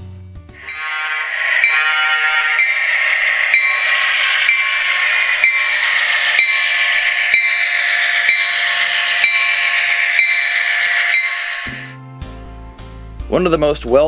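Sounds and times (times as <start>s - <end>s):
model locomotive engine hiss: 0.6s - 11.9s
faint steady tones: 0.6s - 12.0s.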